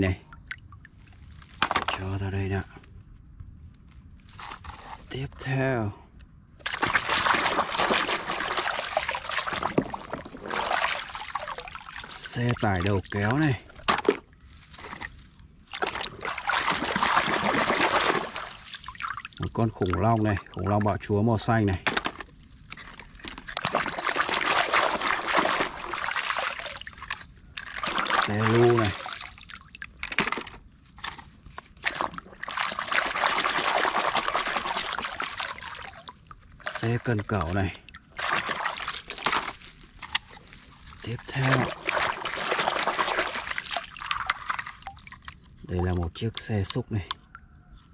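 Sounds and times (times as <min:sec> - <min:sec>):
water sloshing in plastic basin: 0:06.6 - 0:47.4.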